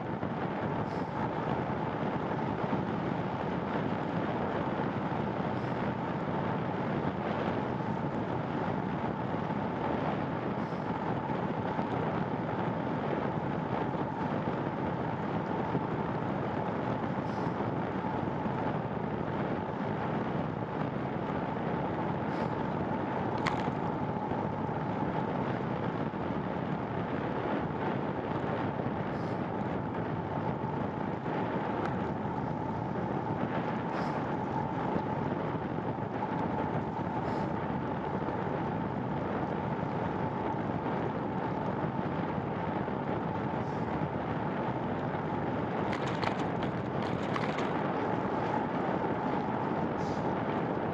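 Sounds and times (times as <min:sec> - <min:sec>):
faint steady whine: 0:00.0 - 0:50.9
wind and road noise: 0:00.0 - 0:50.9.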